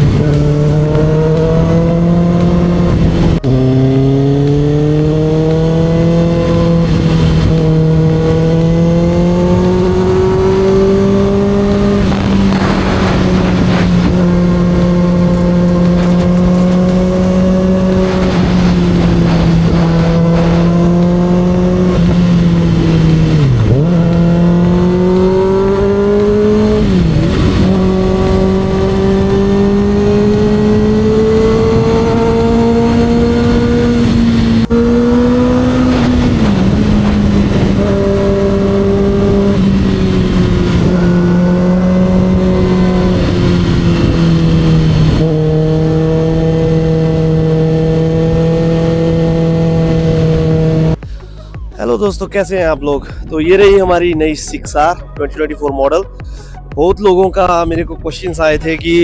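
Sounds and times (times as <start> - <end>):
motorcycle engine running: 0.0 - 51.7.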